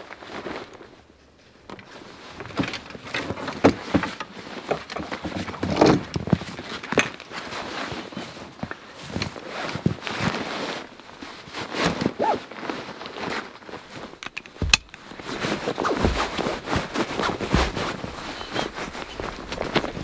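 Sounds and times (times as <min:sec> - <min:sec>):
rustling of backpack straps: 0:00.0 - 0:20.0.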